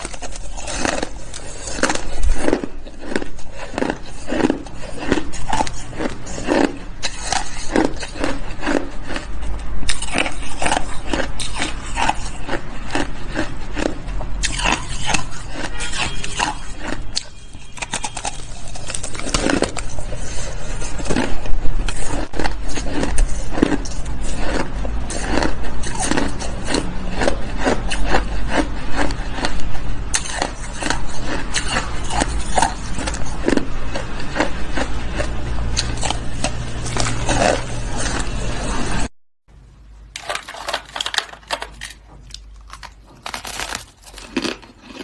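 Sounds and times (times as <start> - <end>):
chewing crunchy ice: 0.0 - 39.1, 40.1 - 45.0.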